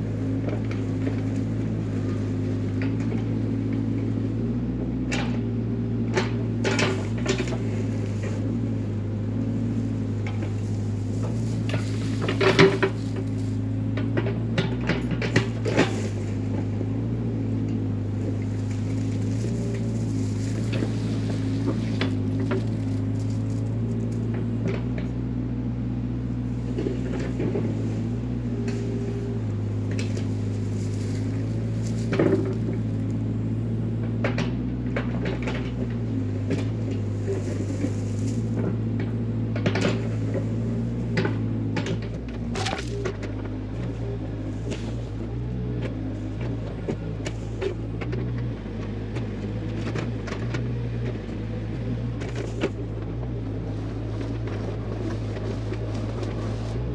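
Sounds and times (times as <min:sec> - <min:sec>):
excavator engine running: 0:00.0 - 0:56.9.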